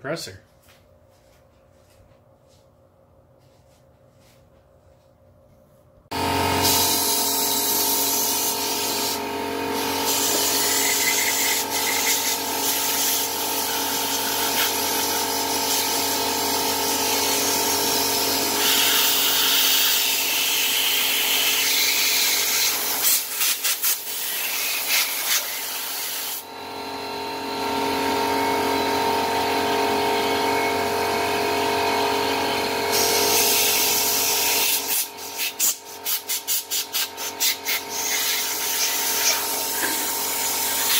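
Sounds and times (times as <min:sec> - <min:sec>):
air compressor humming: 0:06.1 - 0:40.9.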